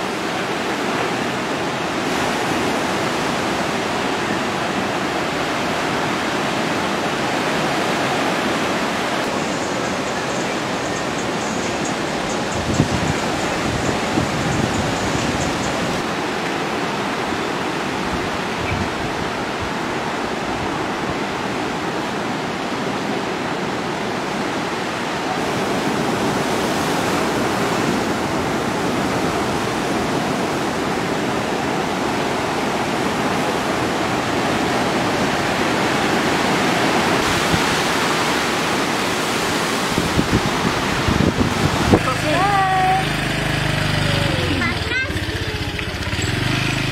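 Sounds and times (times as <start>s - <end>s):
ocean surf roaring: 0.0s - 46.9s.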